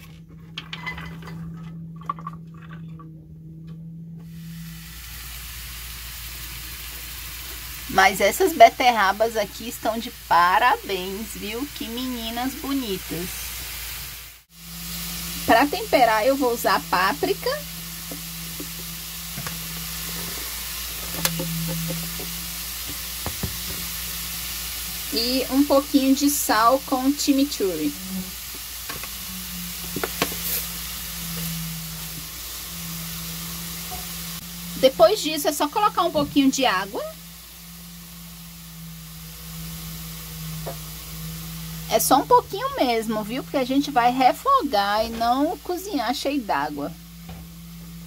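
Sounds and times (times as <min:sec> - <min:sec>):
beets sizzling in hot oil: 0:04.3 - 0:48.0.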